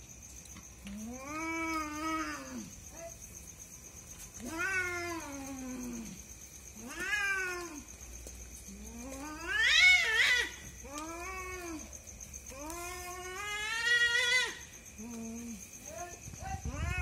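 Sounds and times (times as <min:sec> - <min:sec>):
cats yowling in a fight: 0:00.8 - 0:03.3, 0:04.2 - 0:17.0.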